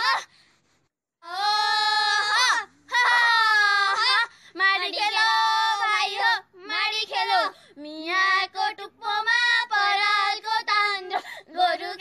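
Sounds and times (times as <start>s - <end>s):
girls singing unaccompanied: 1.2s - 12.0s.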